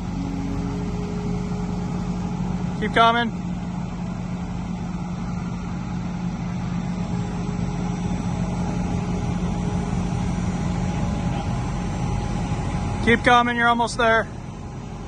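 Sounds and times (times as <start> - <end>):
machine engine droning: 0.0 - 15.0.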